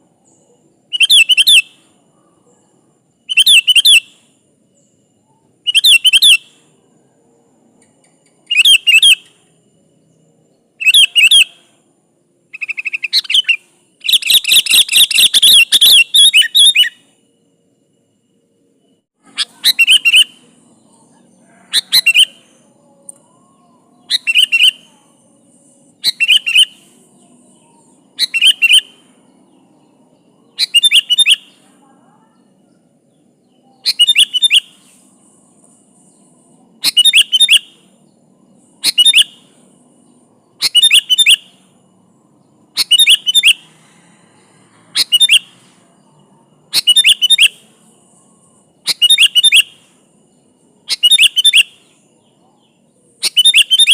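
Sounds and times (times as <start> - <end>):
bulbul singing: 0.1 - 7.1, 7.7 - 17.4, 19.2 - 31.8, 32.4 - 53.9.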